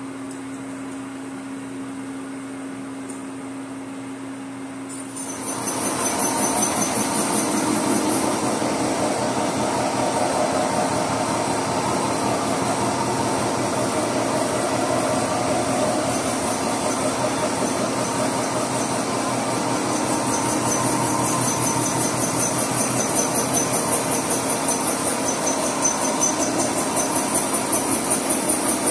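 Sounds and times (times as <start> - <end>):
boring mill cutting steel: 5.2 - 28.9.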